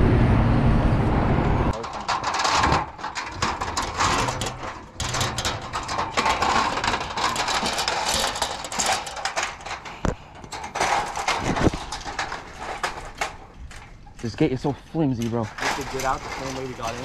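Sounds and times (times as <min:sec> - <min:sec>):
chain-link gate rattling: 0:01.7 - 0:17.0.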